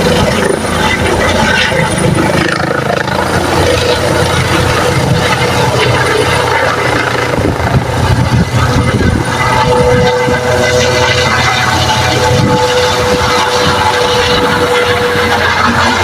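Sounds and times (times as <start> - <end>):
helicopter rotor and turbine: 0.0 - 16.0
steady whine: 0.0 - 16.0.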